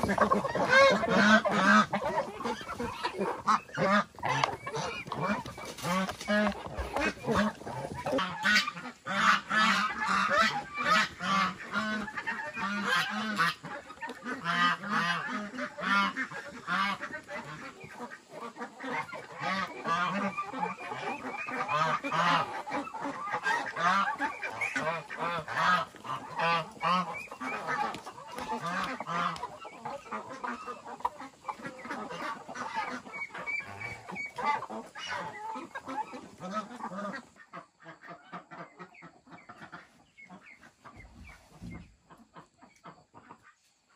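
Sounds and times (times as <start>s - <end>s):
farm fowl calling: 0.0s - 43.9s.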